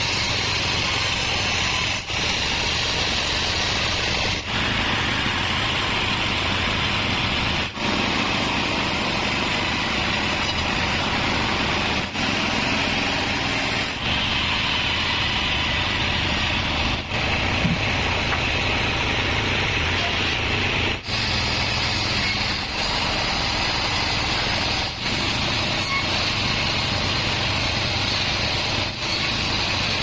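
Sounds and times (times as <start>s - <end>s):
band sawmill running: 0.0s - 30.0s
high hissing saw noise: 0.0s - 30.0s
low motor hum: 0.0s - 30.0s.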